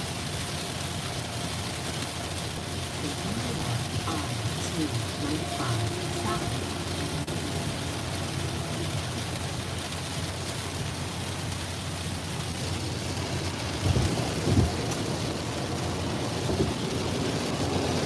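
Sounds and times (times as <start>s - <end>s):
heavy rain on car roof: 0.0s - 18.0s
low road noise: 0.0s - 18.0s.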